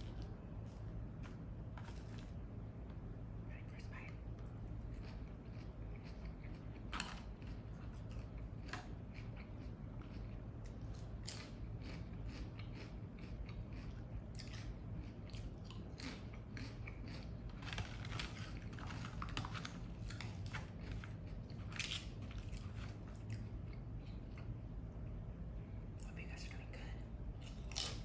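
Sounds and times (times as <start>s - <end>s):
person chewing crunchy food: 0.0s - 2.4s, 3.9s - 24.5s, 27.3s - 28.0s.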